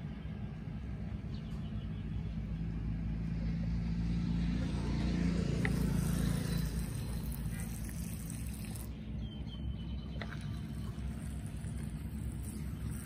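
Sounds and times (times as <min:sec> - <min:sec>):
passing vehicle engine hum: 0:00.0 - 0:13.0
steady low rumble: 0:00.0 - 0:13.0.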